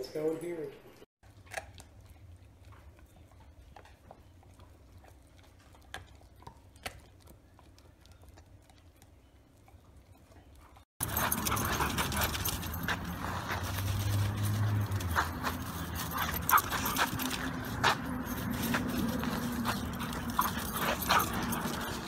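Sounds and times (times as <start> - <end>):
dog gnawing on chew: 1.2 - 22.0.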